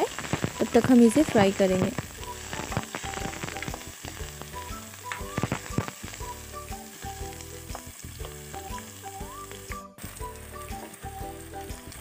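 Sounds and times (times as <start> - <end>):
onions sizzling in oil: 0.0 - 12.0
soft background music: 0.1 - 12.0.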